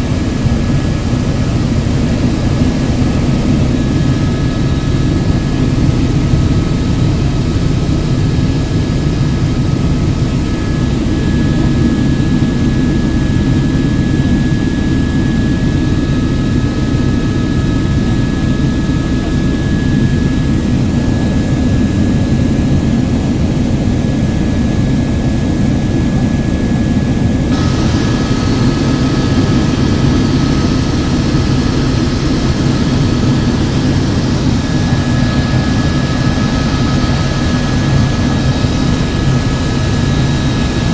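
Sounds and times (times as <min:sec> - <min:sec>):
helicopter engine and rotor drone: 0:00.0 - 0:40.9
high turbine whine: 0:00.0 - 0:40.9.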